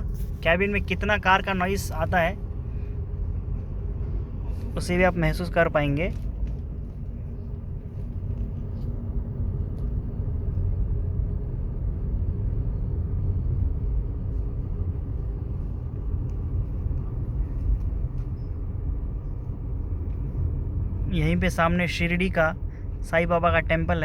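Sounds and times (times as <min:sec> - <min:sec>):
car engine running: 0:00.0 - 0:23.1
road and tyre noise: 0:00.0 - 0:24.0.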